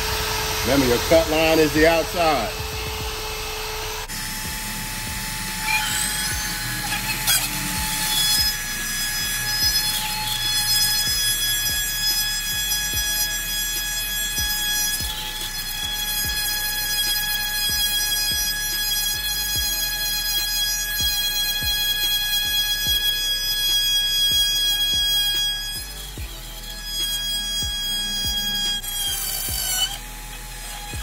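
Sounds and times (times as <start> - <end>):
rotary tool whine cutting plastic: 0.0 - 31.0.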